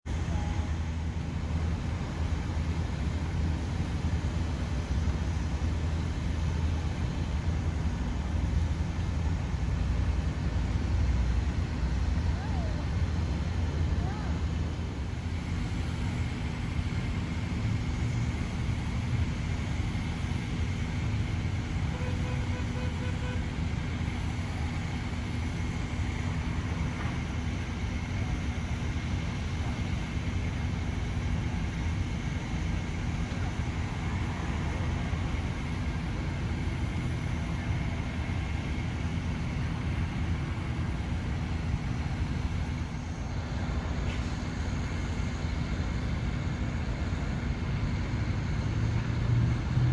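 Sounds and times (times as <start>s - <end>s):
constant hum: 0.0s - 49.9s.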